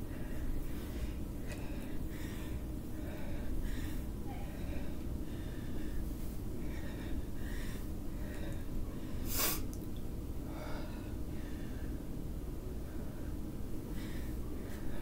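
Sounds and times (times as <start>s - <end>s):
person breathing hard: 0.0s - 9.7s, 10.4s - 15.0s.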